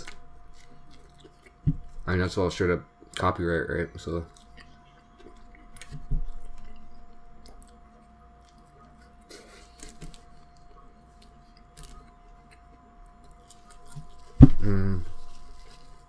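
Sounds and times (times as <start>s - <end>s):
person chewing food: 0.0s - 2.1s, 4.2s - 16.0s
faint steady hum: 0.0s - 16.0s.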